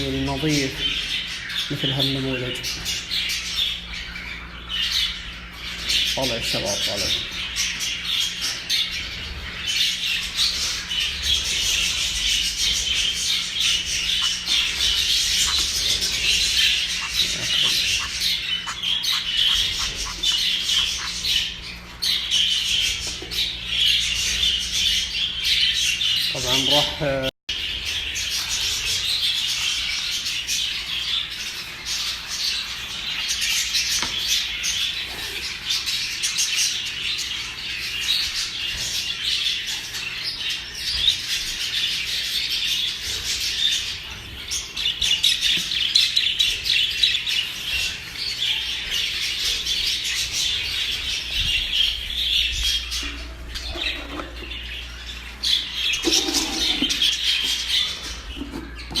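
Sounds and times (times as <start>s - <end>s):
small birds chirping and twittering: 0.0s - 59.0s.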